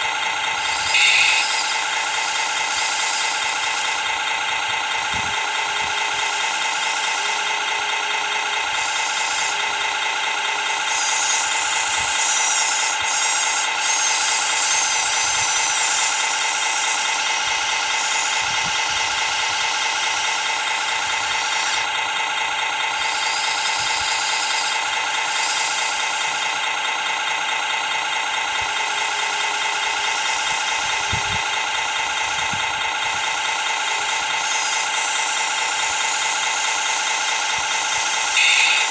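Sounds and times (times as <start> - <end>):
excavator arm rattling: 0.0 - 38.9
model excavator pump whine: 0.0 - 38.9.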